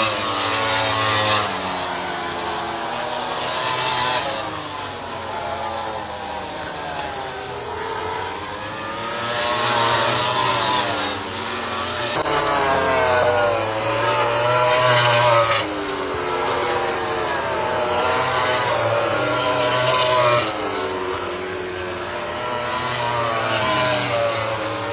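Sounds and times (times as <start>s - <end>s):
racing motorcycles revving: 0.0s - 24.9s.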